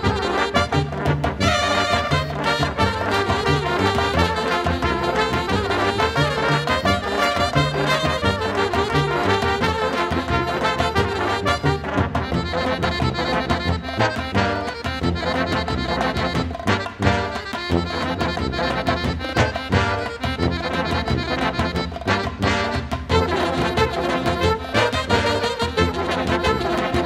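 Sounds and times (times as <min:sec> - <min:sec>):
music with brass and beat: 0:00.0 - 0:27.0.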